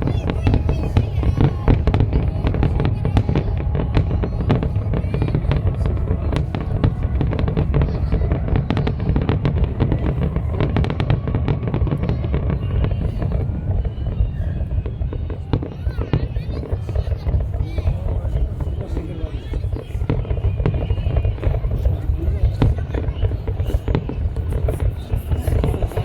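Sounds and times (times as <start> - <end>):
fireworks cracks and bangs: 0.0 - 26.0.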